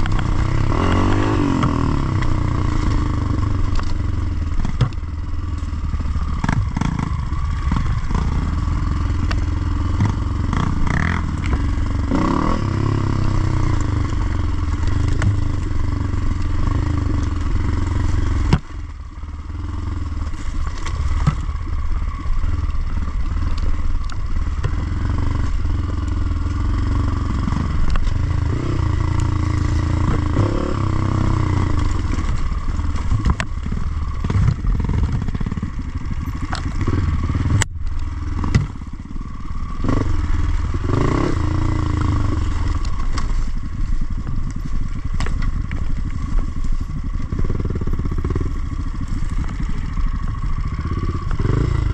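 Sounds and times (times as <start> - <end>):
dirt bike engine revving: 0.0 - 44.2, 45.2 - 51.9.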